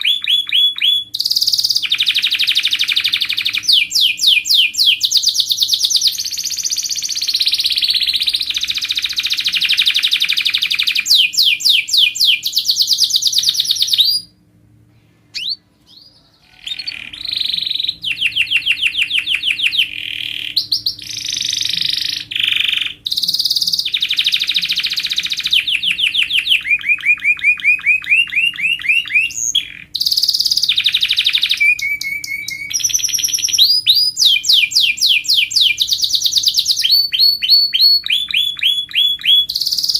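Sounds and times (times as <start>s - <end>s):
canary singing trills: 0.0s - 14.4s, 15.3s - 39.9s.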